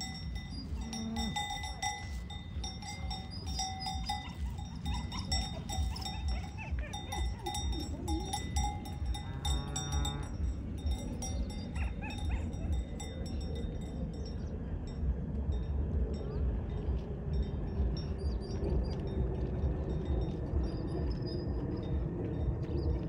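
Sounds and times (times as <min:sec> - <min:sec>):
cowbells clanking: 0:00.0 - 0:23.0.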